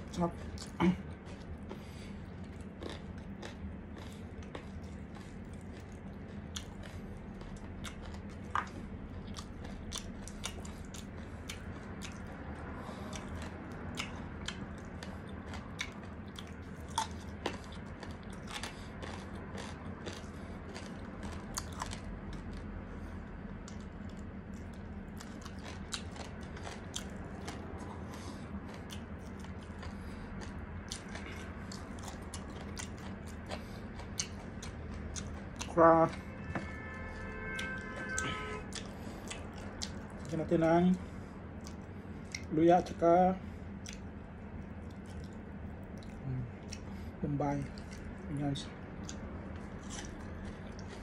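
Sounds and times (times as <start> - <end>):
low hum: 0.0 - 51.0
person chewing crispy food: 0.0 - 51.0.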